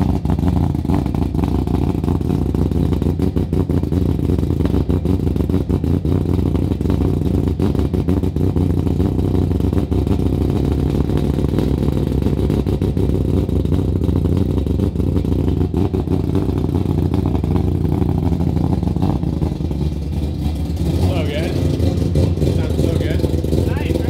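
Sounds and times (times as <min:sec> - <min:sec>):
rotary engine idling: 0:00.0 - 0:24.0.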